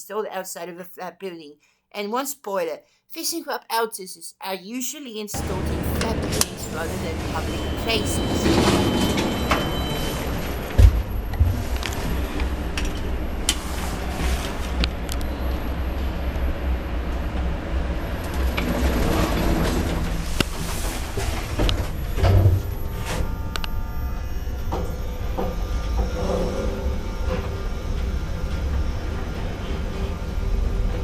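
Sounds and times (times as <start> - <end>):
lift running low rumble: 5.4 - 31.0.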